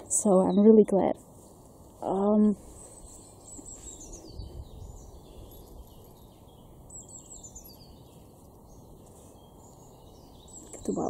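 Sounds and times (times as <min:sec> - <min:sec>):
low background noise: 0:00.0 - 0:11.0
small birds chirping: 0:00.0 - 0:11.0.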